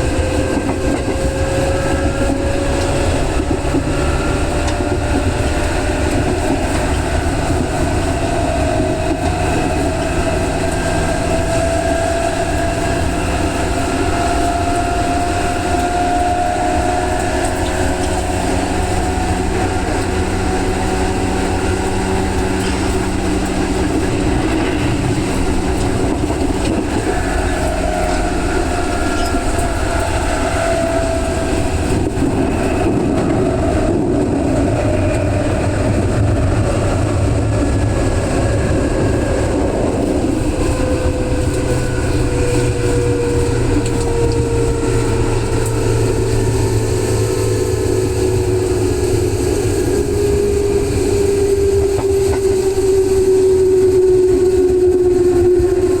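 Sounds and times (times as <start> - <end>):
traction motor whine: 0.0 - 56.0
train running on rails: 0.0 - 56.0.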